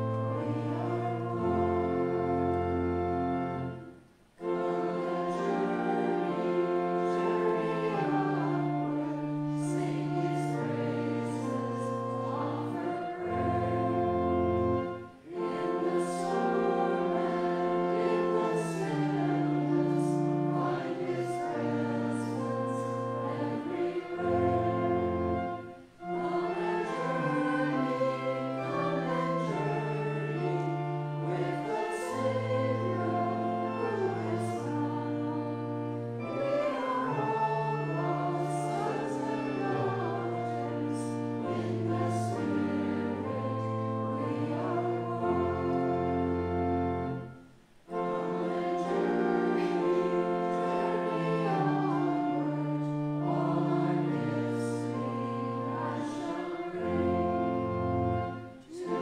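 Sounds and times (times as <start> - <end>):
church organ chords: 0.0 - 59.0
congregation singing a hymn: 0.0 - 59.0.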